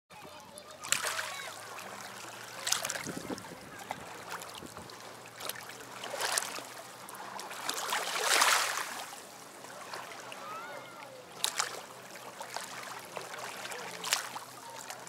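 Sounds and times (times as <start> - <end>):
small waves washing over pebbles: 0.7 - 10.4, 11.2 - 15.0.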